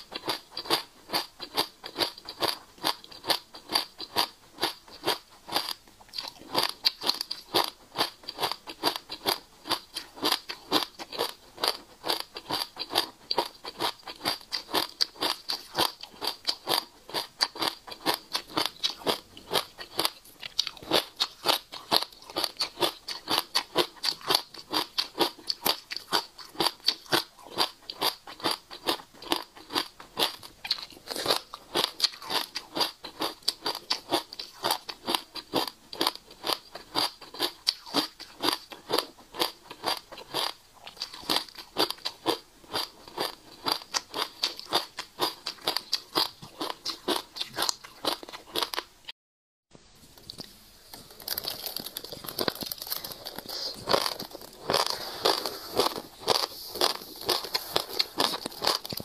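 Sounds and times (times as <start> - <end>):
seeds being chewed: 0.0 - 48.9, 50.1 - 59.0.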